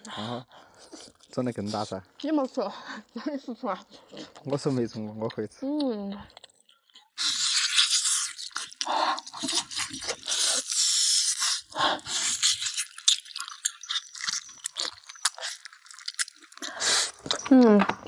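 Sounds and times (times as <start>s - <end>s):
wet chewing and gnawing: 0.0s - 18.0s.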